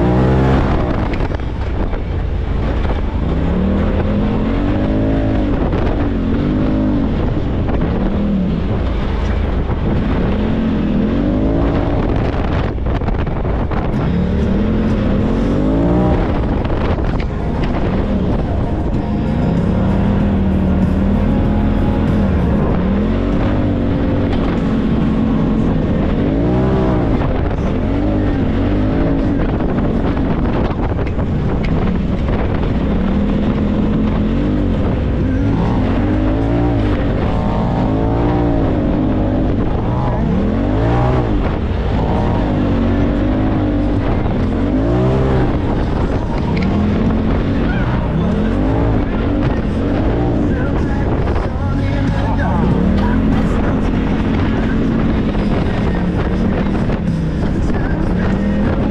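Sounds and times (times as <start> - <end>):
engine revving: 0.0 - 58.9.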